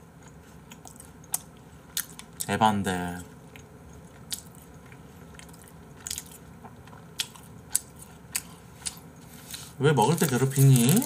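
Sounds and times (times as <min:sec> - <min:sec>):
person chewing: 0:00.2 - 0:02.5, 0:03.5 - 0:11.0.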